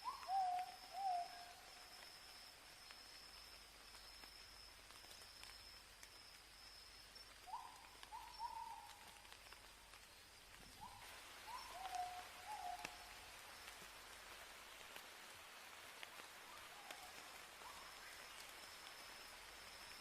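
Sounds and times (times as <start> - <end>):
faint hiss of rain: 0.0 - 20.0
high insect whine: 0.0 - 20.0.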